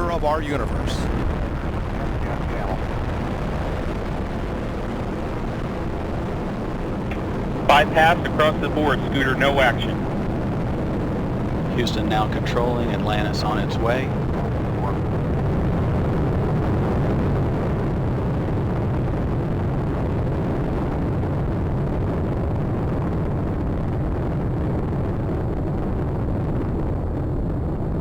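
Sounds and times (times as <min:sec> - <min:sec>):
rocket engines rumbling: 0:00.0 - 0:28.0.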